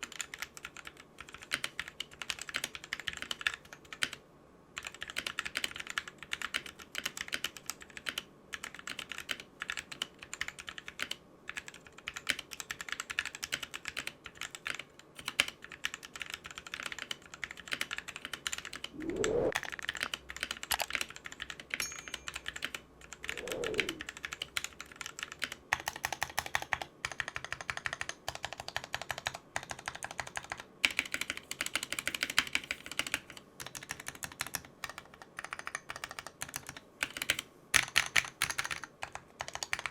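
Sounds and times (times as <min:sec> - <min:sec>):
mechanical keyboard typing: 0:00.0 - 0:04.2, 0:04.8 - 0:18.9, 0:19.6 - 0:39.9.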